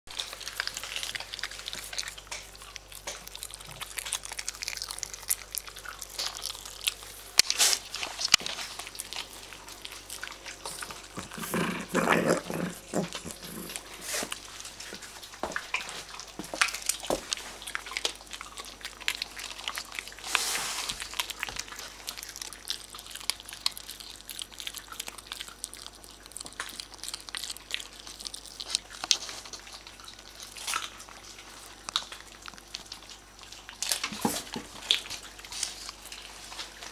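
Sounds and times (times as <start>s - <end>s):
dogs gnawing and crunching bones: 0.1s - 36.9s.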